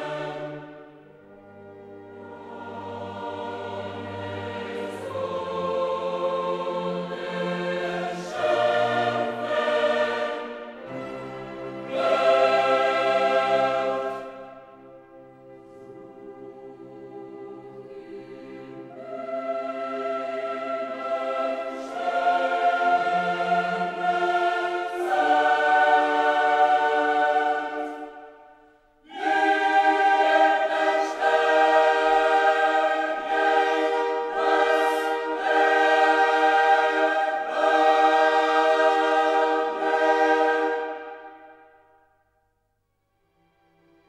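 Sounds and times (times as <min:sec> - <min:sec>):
choir singing held chords: 0:00.0 - 0:42.4.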